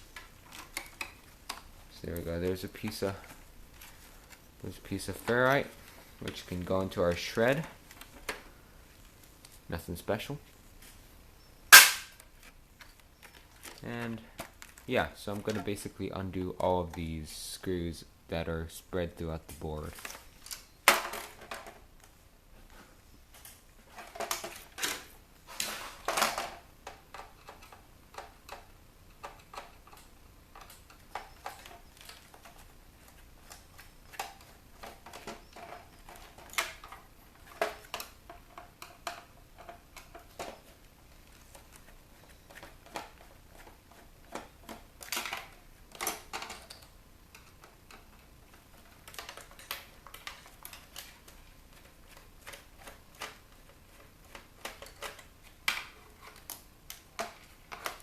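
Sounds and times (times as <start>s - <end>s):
parts clattering: 0.0s - 11.0s, 19.2s - 22.0s, 22.6s - 58.0s.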